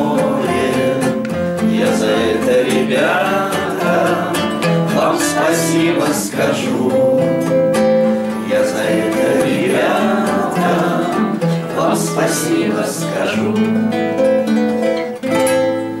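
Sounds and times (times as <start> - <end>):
voices holding long notes: 0.0 - 14.3
classical guitars strumming: 0.0 - 16.0.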